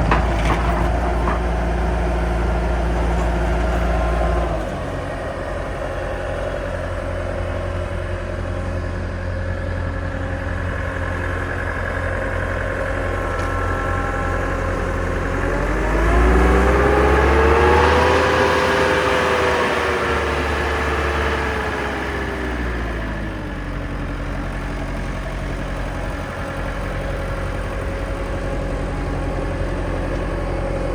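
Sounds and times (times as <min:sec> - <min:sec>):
diesel engine idling and revving: 0:00.0 - 0:30.9.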